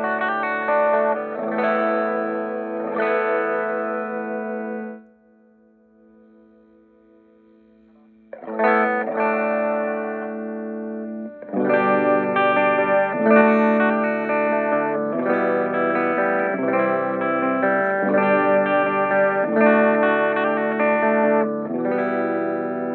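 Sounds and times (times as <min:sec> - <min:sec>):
distorted electric guitar chords: 0:00.0 - 0:22.9.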